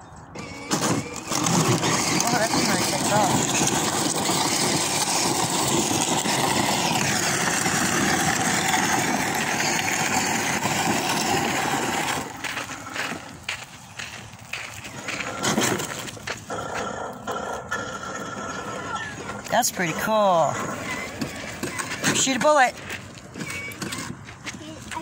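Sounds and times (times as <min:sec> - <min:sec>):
electric motors running: 0:00.3 - 0:24.3
wheels crunching on gravel: 0:00.3 - 0:25.0.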